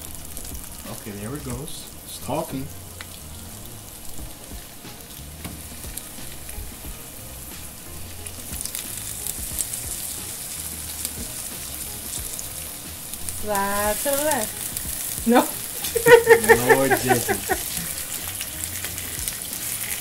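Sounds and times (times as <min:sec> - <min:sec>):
meat sizzling in frying pan: 0:00.0 - 0:20.0.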